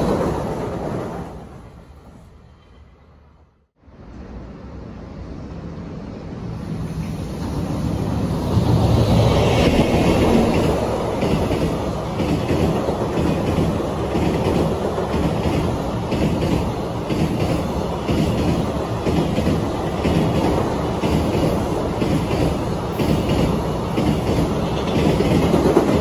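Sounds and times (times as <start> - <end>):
freight train rumbling over bridge: 0.0 - 26.0.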